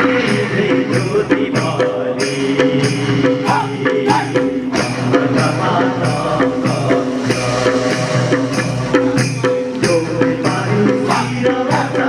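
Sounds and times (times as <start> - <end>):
dance music with jingling percussion: 0.0 - 12.0.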